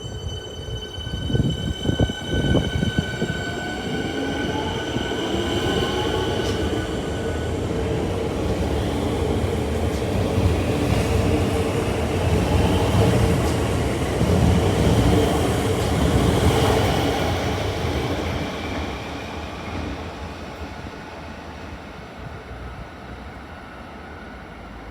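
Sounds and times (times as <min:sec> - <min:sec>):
train wheels rumbling on rail: 0:00.1 - 0:24.9.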